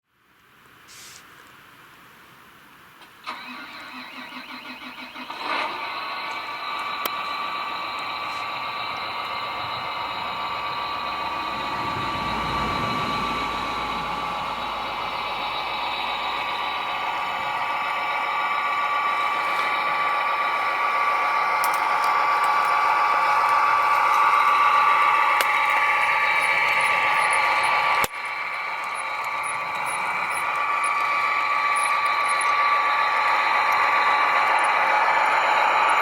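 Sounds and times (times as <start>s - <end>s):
electric model motors whining: 3.3s - 36.0s.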